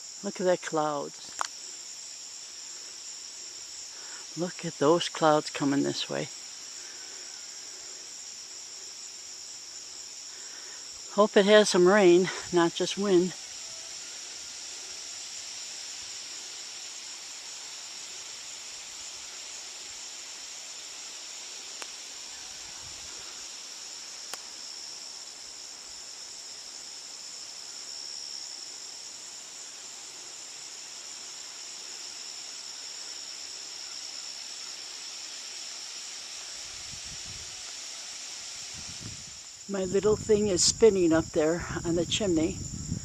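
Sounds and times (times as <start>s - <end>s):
insects chirring: 0.0s - 43.0s.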